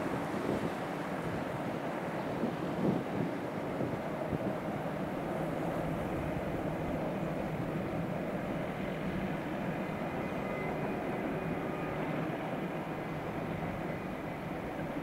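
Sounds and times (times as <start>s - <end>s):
freight train passing: 0.0s - 15.0s.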